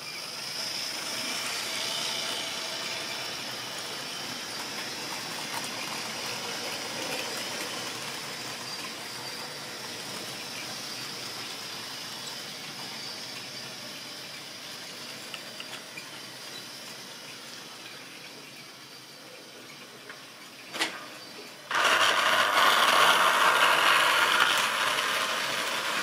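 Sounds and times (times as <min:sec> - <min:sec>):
model train wheels rumbling on rail: 0:00.0 - 0:26.0.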